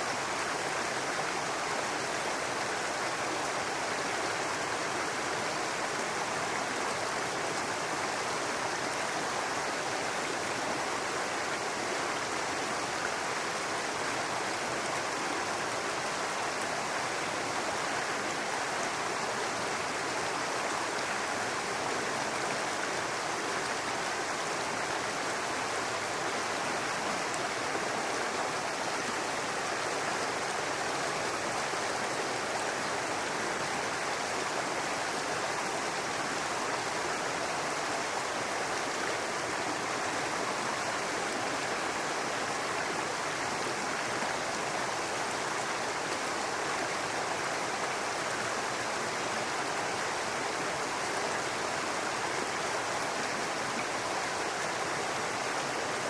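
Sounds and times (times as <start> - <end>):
brook babbling over rocks: 0.0 - 56.0.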